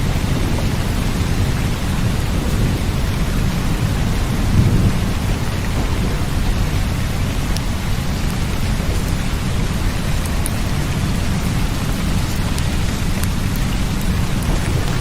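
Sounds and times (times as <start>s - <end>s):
deep low rumble: 0.0s - 15.0s
steady rain: 0.0s - 15.0s.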